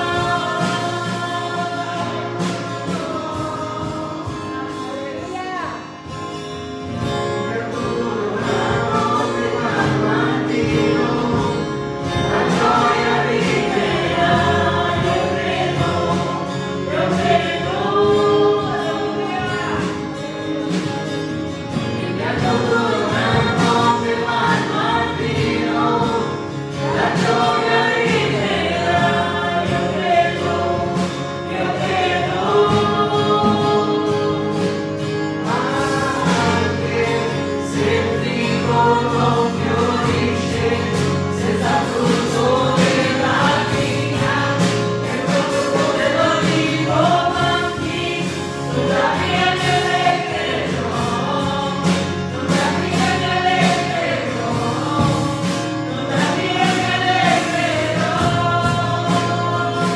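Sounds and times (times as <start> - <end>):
backing music: 0.0 - 59.9
group singing worship song: 0.0 - 59.9.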